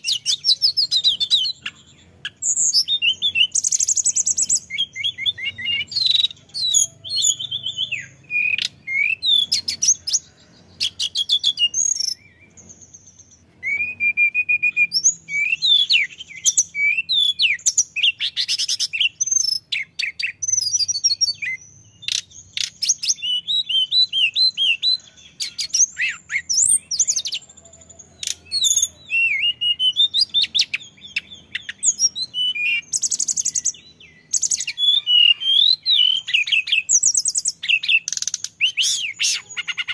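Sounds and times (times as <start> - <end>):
bird singing whistled trills: 0.0 - 39.9.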